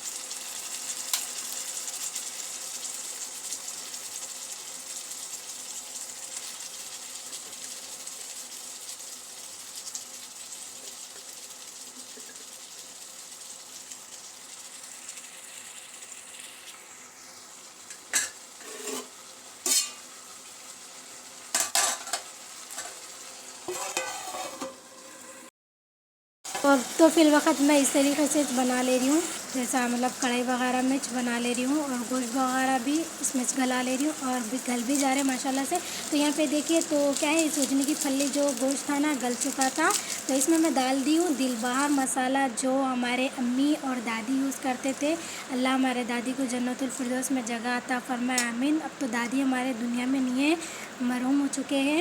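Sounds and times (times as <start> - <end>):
food sizzling in a pan: 0.0 - 25.5, 26.4 - 52.0.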